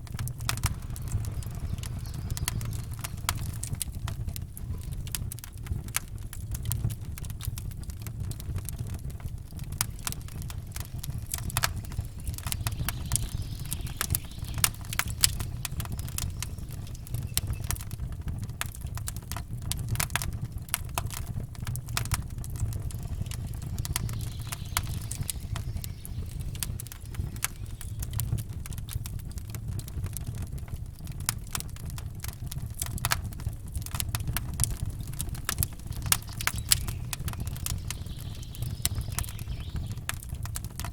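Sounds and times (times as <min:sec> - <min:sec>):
steady low rumble: 0:00.0 - 0:06.3, 0:08.2 - 0:30.8, 0:32.4 - 0:40.0
campfire wood crackling and popping: 0:00.0 - 0:40.9.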